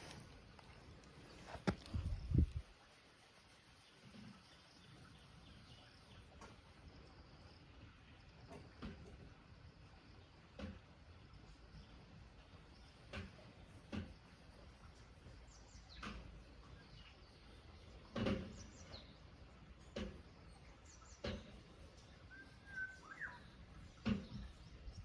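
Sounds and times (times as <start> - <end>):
songbird chirp: 0.0 - 25.0.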